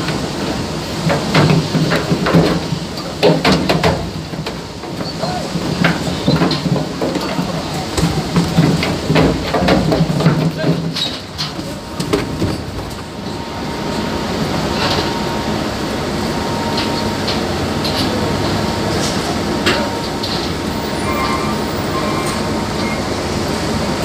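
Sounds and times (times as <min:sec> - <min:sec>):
ship machinery rumble: 0:00.0 - 0:24.0.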